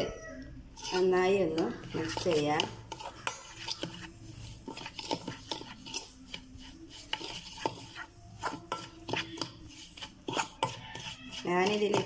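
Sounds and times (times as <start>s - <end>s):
metal spoon scraping steel bowl: 0.7s - 12.0s.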